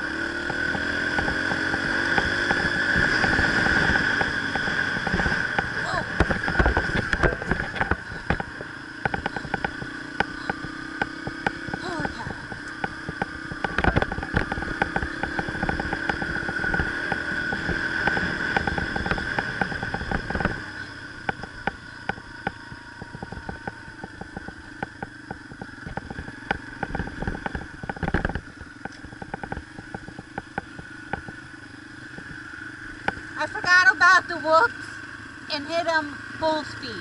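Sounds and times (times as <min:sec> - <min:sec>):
dirt bike engine running: 0:00.0 - 0:37.0
knocks and rattles from bumps: 0:00.4 - 0:31.5.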